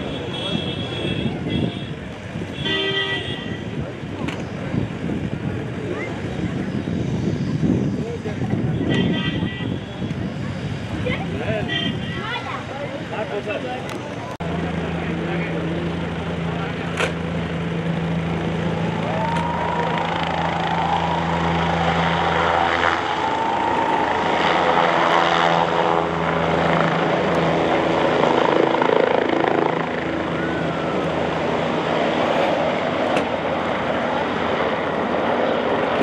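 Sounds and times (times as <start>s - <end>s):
helicopter engine and rotor hum: 0.0s - 36.0s
helicopter rotor noise rushing: 3.6s - 8.8s, 9.5s - 36.0s.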